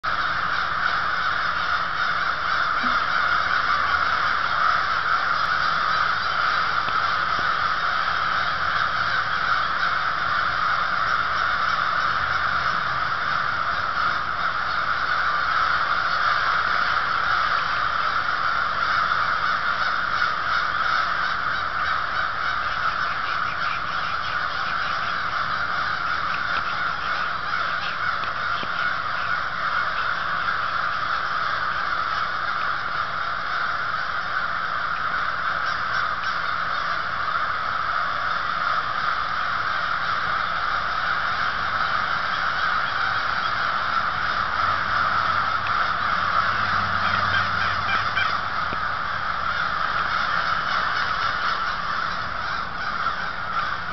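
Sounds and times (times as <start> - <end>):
crows cawing: 0.0 - 53.9.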